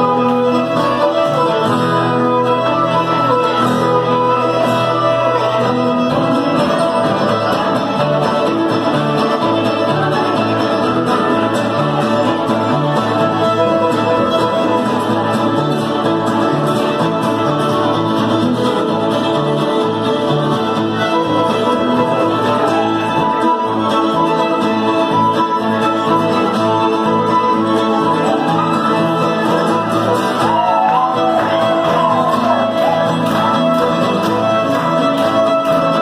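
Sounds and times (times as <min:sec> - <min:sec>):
fiddles playing melody: 0:00.0 - 0:36.0
strummed guitar: 0:00.0 - 0:36.0.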